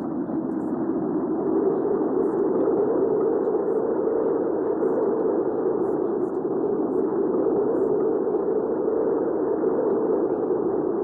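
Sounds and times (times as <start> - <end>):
muffled rush of strong wind: 0.0 - 11.0.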